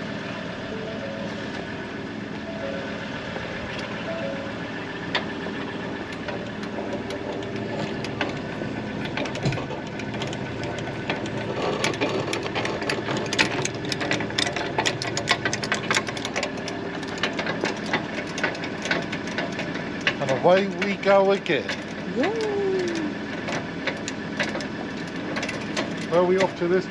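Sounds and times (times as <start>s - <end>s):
vehicle engine running: 0.0s - 26.9s
sharp clicks and rattles: 3.3s - 26.9s.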